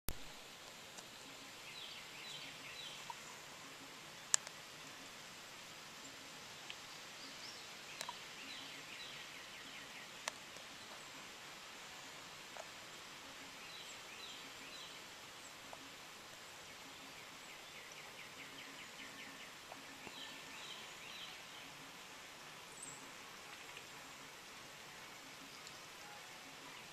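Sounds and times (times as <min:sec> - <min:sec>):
light rain hiss: 0:00.1 - 0:26.9.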